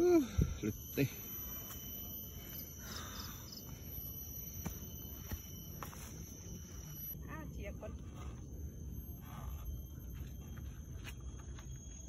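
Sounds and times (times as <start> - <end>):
insects buzzing and chirping: 0.0 - 12.0.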